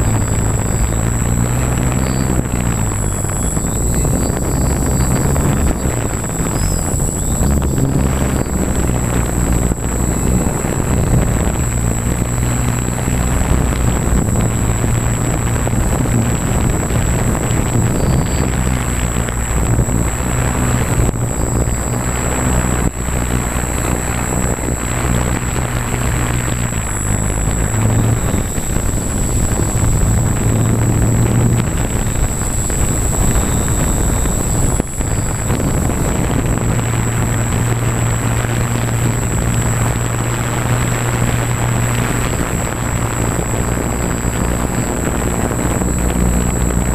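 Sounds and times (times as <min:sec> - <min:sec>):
drone motors whirring: 0:00.0 - 0:46.9
rush of air: 0:00.0 - 0:46.9
thin high whine: 0:00.0 - 0:46.9.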